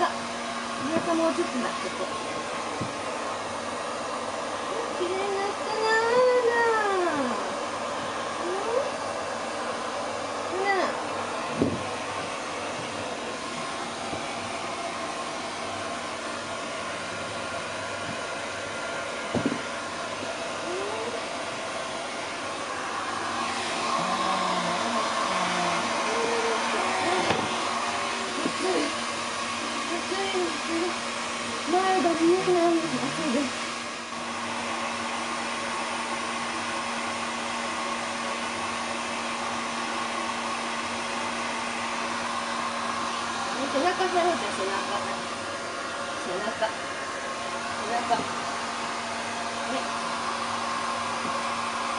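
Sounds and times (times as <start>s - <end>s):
hair dryer blowing: 0.0s - 51.9s.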